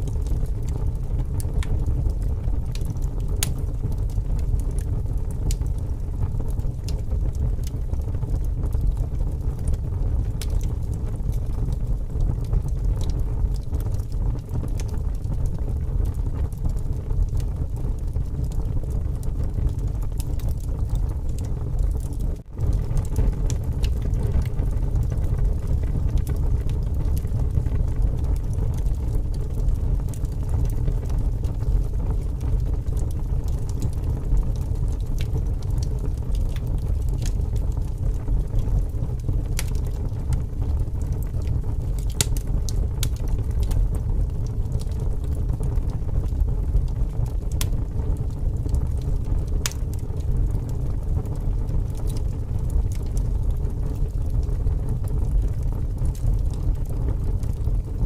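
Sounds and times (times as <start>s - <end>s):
strong wind rumble: 0.0s - 58.0s
wood fire crackling: 0.0s - 58.0s.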